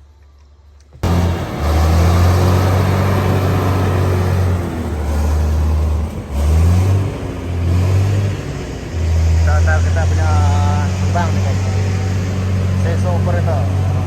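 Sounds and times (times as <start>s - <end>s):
heavy vehicle engine running: 1.0s - 14.0s.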